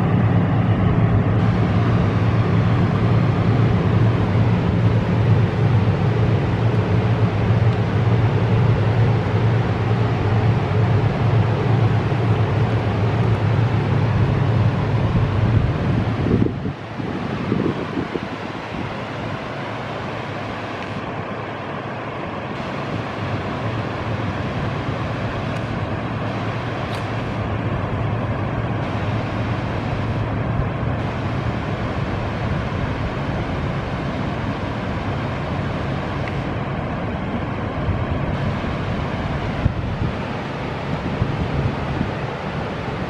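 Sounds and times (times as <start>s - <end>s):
distant locomotive engine rumble: 0.0s - 43.0s.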